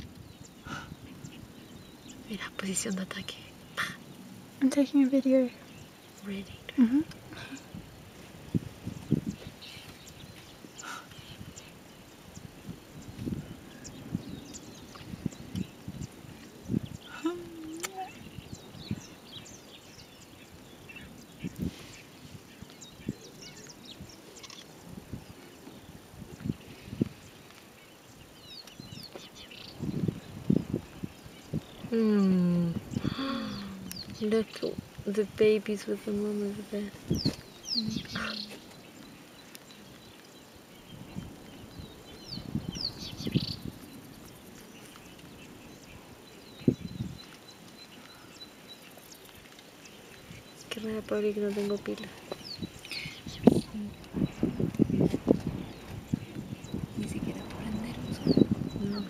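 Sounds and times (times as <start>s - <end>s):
bird chirps and calls: 9.0s - 59.0s.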